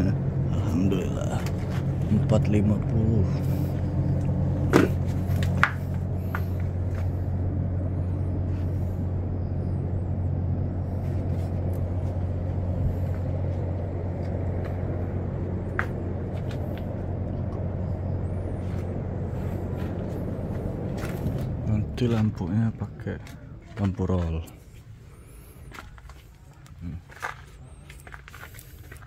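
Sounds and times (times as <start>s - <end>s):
exhaust fans humming: 0.0s - 29.0s.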